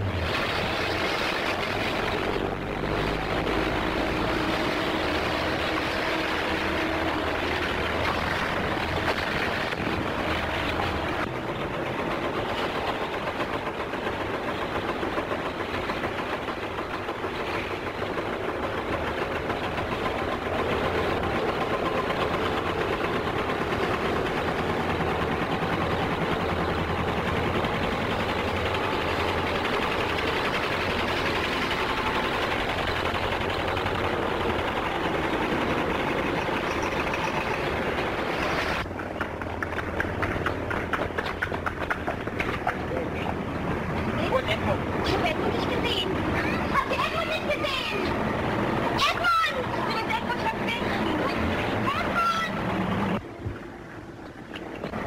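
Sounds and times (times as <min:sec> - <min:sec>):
trucks and cars driving past: 0:00.0 - 0:55.0.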